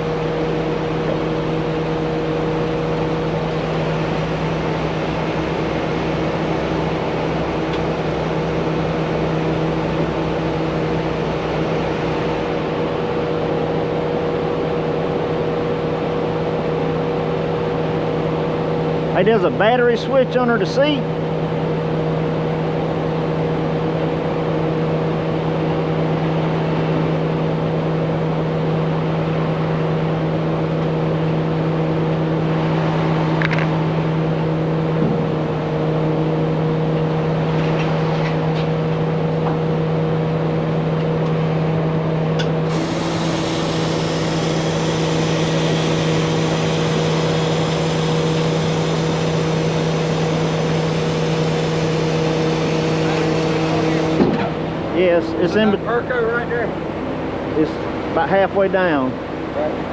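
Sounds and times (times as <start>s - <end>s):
truck engine idling: 0.0s - 27.4s, 38.8s - 59.9s.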